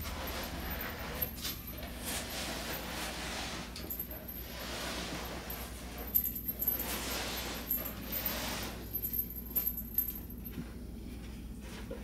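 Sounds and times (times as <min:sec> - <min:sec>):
rustling and scraping: 0:00.0 - 0:12.0.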